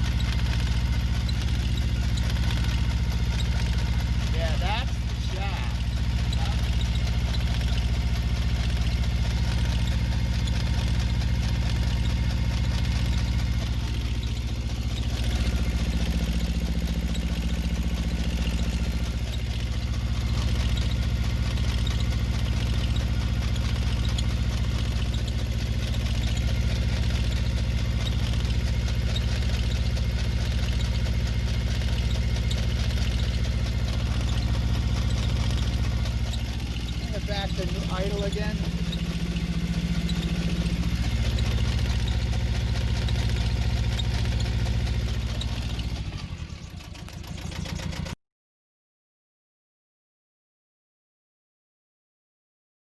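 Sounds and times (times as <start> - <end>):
marine diesel engine running: 0.0 - 48.2.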